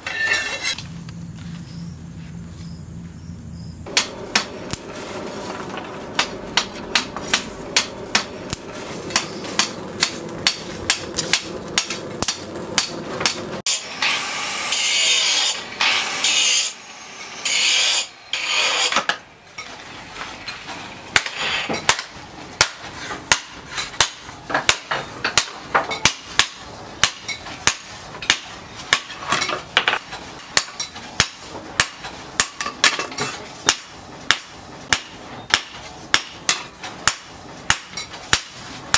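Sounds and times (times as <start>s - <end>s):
hammer striking steel on anvil: 3.9s - 19.2s, 21.1s - 38.7s.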